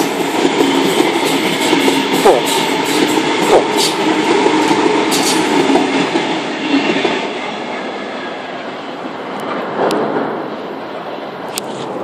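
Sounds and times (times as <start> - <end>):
train rumble and rail noise: 0.0 - 12.0.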